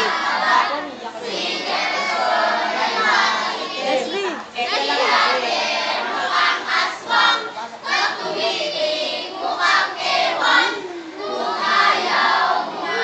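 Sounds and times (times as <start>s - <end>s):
children shouting and chanting: 0.0s - 13.0s.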